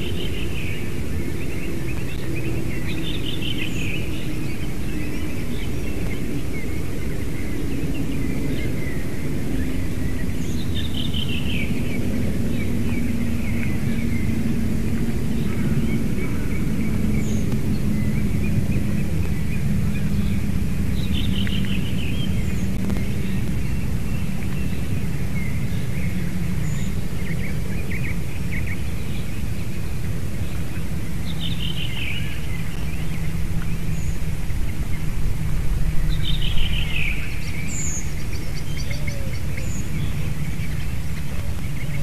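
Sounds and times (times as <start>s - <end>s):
wind and microphone hum: 0.0s - 42.0s.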